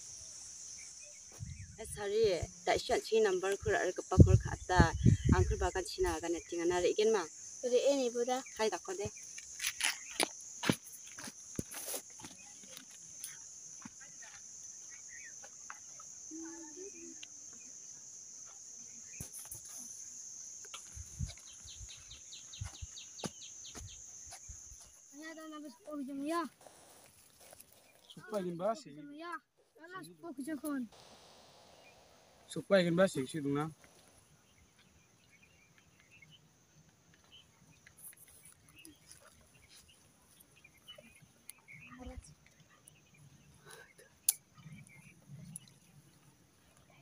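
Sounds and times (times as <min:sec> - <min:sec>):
high insect drone: 0:00.0 - 0:29.0, 0:30.0 - 0:47.0
faint high chirps and ticks: 0:00.0 - 0:47.0.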